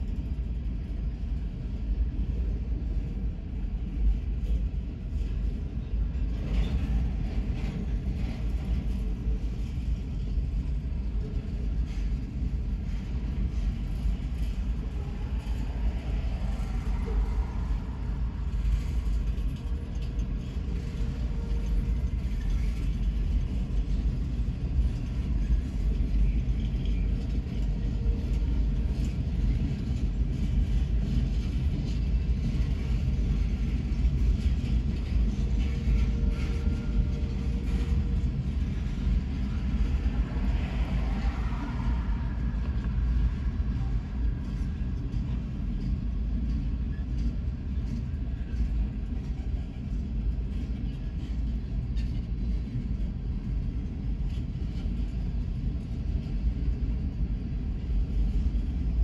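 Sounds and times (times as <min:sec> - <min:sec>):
freight cars rolling on rails: 0:00.1 - 0:59.0.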